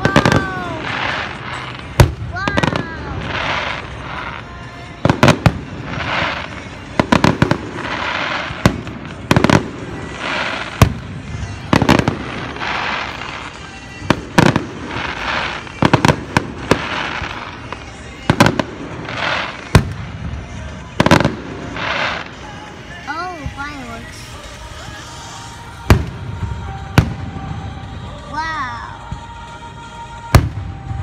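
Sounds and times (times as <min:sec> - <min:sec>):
fireworks exploding: 0:00.0 - 0:31.0
fireworks hiss: 0:00.0 - 0:31.0.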